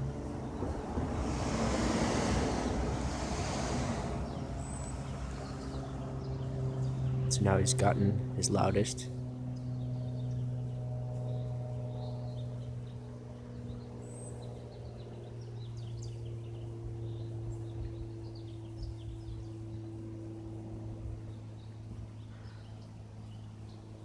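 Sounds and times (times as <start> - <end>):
propeller plane engine droning: 0.0 - 24.0
small birds chirping: 0.3 - 20.0.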